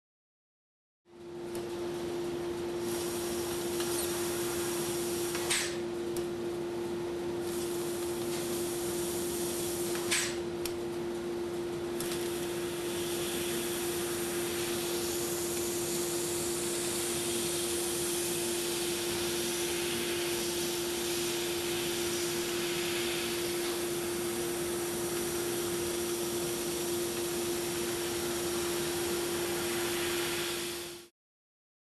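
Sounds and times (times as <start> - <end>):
laser cutting machine hum: 2.9 - 31.1.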